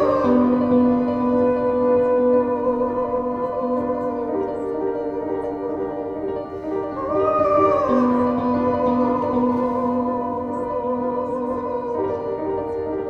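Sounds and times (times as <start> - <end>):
slow held notes: 0.0 - 13.0
steady low drone: 0.0 - 13.0.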